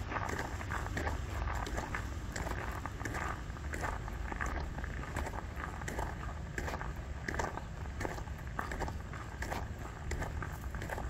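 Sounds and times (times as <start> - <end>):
footsteps crunching on icy snow: 0.0 - 11.0
steady low rumble: 0.0 - 11.0.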